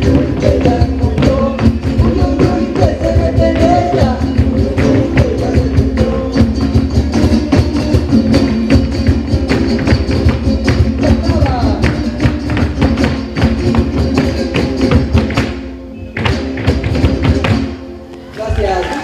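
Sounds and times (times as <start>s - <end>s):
fast percussion beat: 0.0s - 17.8s.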